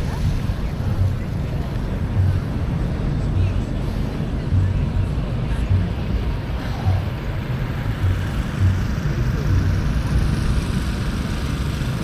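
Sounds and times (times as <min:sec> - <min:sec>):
haze of noise: 0:00.0 - 0:12.0
steady low rumble: 0:00.0 - 0:12.0.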